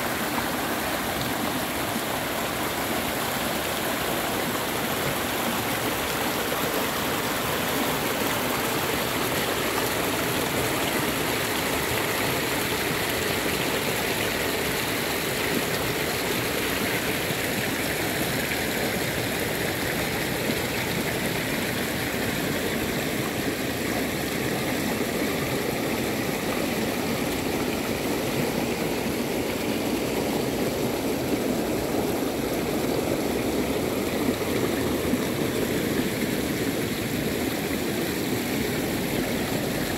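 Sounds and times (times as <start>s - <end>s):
creek rushing over rocks: 0.0s - 39.9s.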